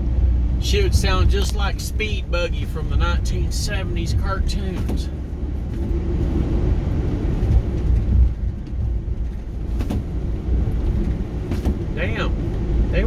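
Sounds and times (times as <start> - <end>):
tyres rumbling on rough road: 0.0 - 13.0
car knocking over bumps: 0.6 - 13.0.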